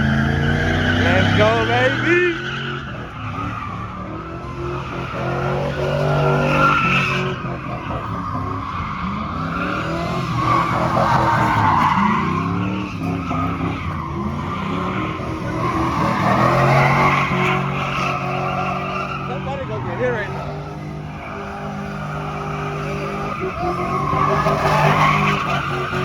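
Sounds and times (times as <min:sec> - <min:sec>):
tyres squealing: 0:00.0 - 0:03.8, 0:04.8 - 0:26.0
engine revving: 0:00.0 - 0:26.0.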